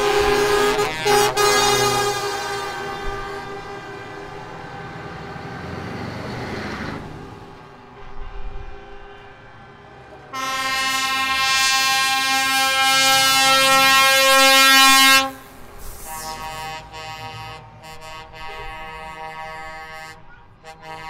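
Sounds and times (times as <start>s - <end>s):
truck air horn blaring: 0.0s - 5.6s, 7.9s - 9.6s, 10.3s - 21.0s
truck driving past: 0.0s - 21.0s.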